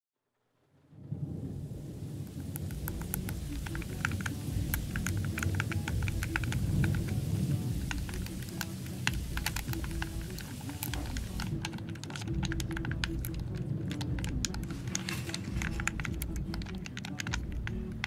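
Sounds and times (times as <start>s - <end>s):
rain hiss: 0.5s - 18.0s
rapid tapping clicks: 2.2s - 18.0s
soft background music: 2.2s - 18.0s.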